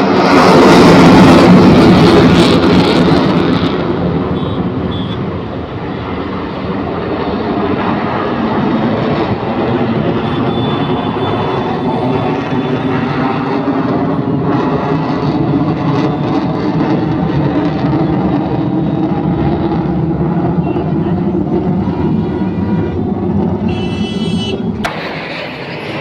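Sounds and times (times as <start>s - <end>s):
aircraft engine flying past: 0.0s - 26.0s.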